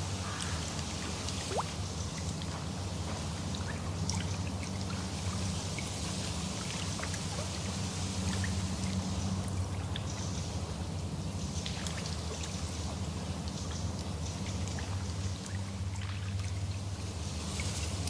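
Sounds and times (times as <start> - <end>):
small waves lapping: 0.0 - 18.0
water splashes and drips: 0.0 - 18.0.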